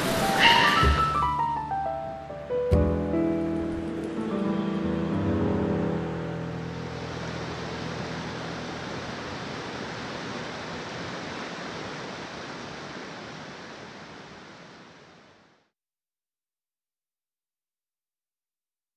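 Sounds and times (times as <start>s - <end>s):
creek rapids roaring: 0.0s - 15.6s.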